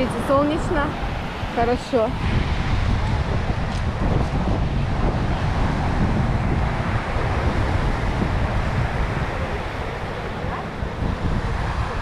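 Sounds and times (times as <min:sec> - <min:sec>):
surf on the shore: 0:00.0 - 0:12.0
wind buffeting microphone: 0:00.0 - 0:12.0.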